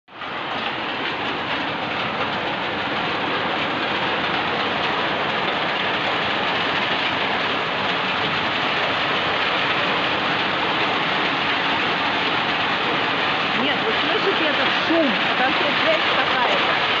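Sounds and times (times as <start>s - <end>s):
heavy rain: 0.1s - 17.0s.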